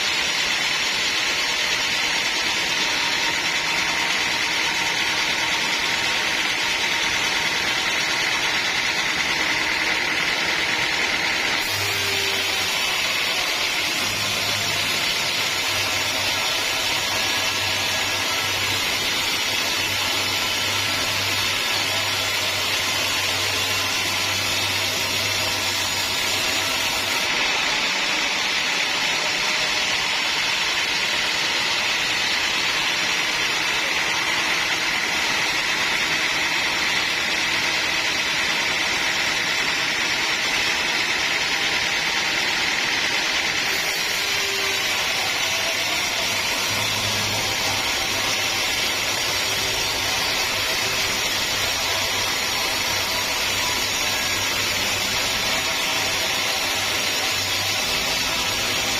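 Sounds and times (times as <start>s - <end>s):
saw cutting through log: 0.0s - 58.9s.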